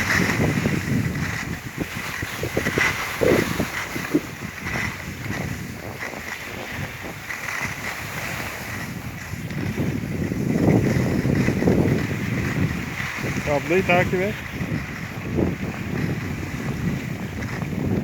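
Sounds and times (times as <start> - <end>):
skis scraping over snow: 0.0 - 18.0
wind buffeting microphone: 0.0 - 18.0.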